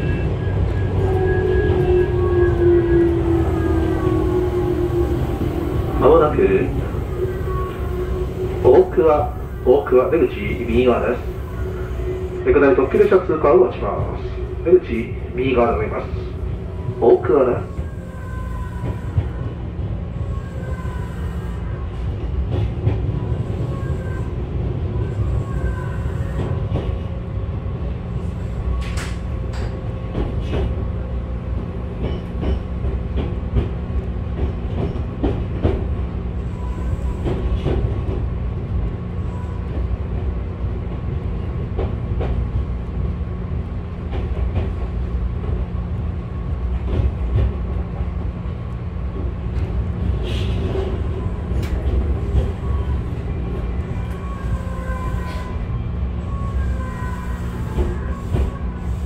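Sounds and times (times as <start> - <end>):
rail joint clicks: 0.0 - 20.0, 20.6 - 27.2, 27.9 - 59.0
train wheels rumbling on track: 0.0 - 59.0.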